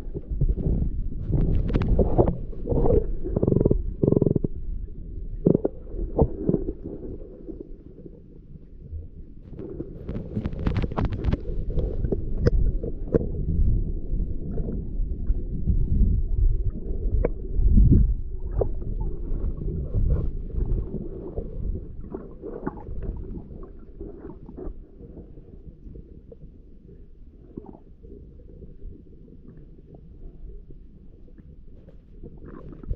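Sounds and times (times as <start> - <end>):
muffled water rumble: 0.0 - 32.9.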